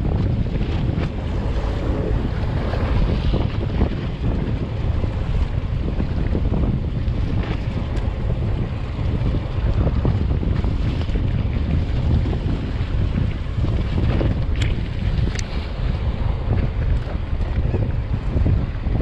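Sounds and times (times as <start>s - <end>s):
boat and waves rumbling: 0.0s - 19.0s
wind buffeting microphone: 0.0s - 19.0s.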